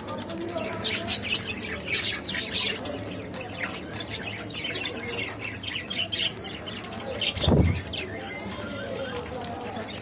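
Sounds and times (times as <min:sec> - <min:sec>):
budgerigars chirping and squawking: 0:00.0 - 0:10.0.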